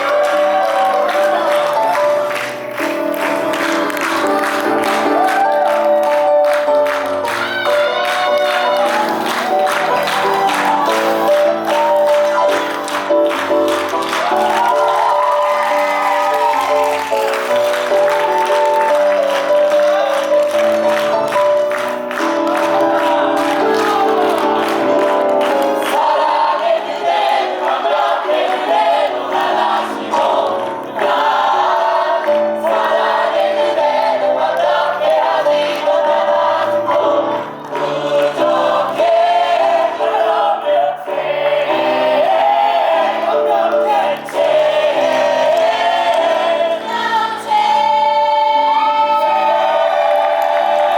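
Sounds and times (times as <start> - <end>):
voices singing together: 0.0 - 50.9.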